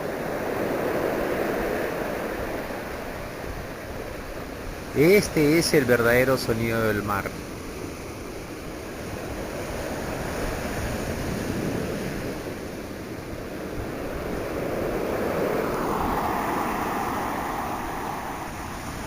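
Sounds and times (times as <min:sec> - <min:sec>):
waves breaking: 0:00.0 - 0:19.0.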